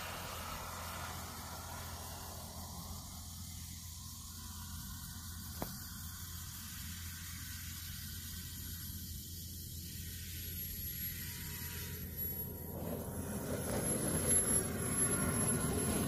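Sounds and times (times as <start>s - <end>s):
distant jet turbine hiss: 0.0s - 16.0s
thin high turbine whine: 0.0s - 16.0s.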